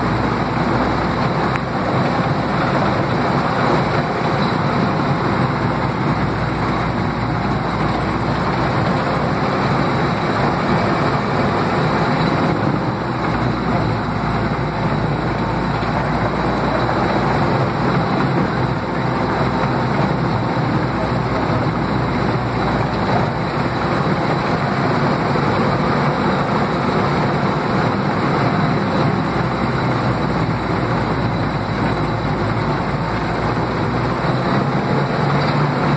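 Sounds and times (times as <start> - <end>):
tank engine and tracks running: 0.0 - 35.9.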